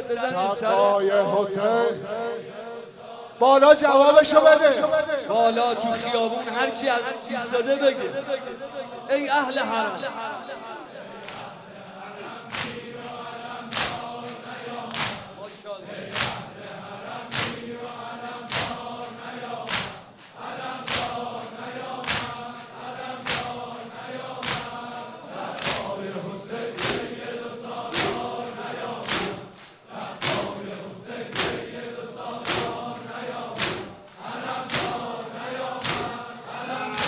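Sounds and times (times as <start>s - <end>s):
crowd chanting in unison: 0.0s - 37.0s.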